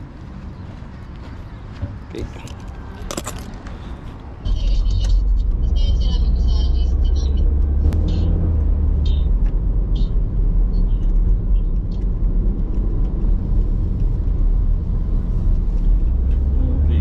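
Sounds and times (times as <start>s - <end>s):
car cabin road rumble: 1.8s - 17.0s.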